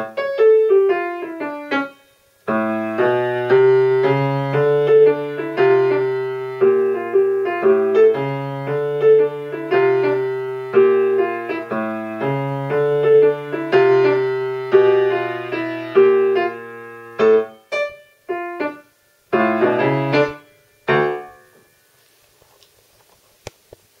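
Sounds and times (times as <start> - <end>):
swing jazz piano: 0.0 - 21.7.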